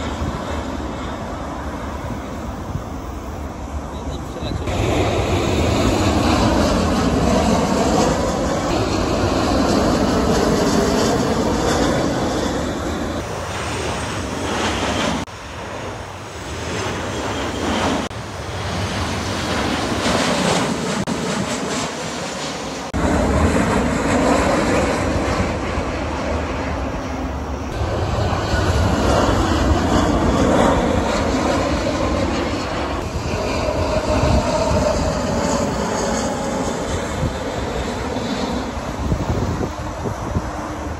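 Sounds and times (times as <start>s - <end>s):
jet aircraft passing low overhead: 0.0s - 40.9s.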